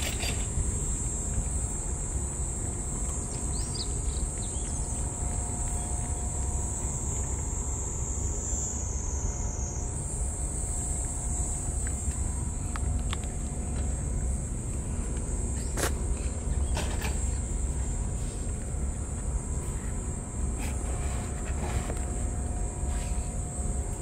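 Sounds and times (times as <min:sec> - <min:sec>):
insects droning: 0:00.0 - 0:24.0
low outdoor rumble: 0:00.0 - 0:24.0.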